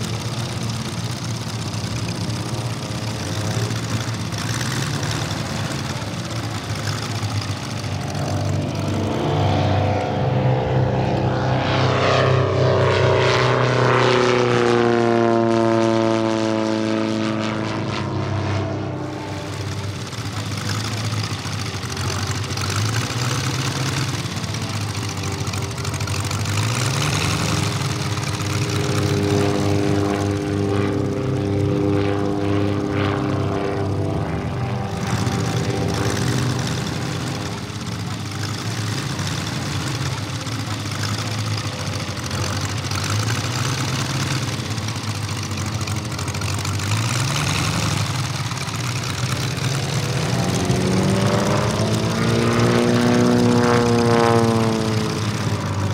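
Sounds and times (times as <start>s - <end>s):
propeller noise: 0.0s - 55.9s
radial engine of model plane: 0.0s - 55.9s.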